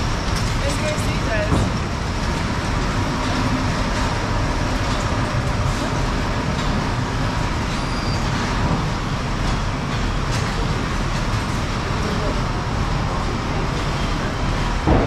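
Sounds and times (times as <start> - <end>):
machinery rumble and hiss: 0.0 - 15.0.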